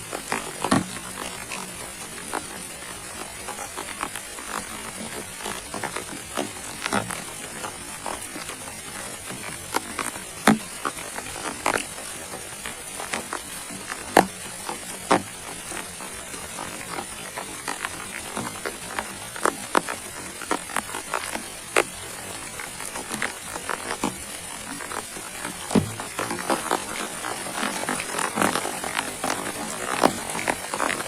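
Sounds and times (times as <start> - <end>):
raindrops tapping: 0.0 - 31.0
steady rain hiss: 0.0 - 31.0.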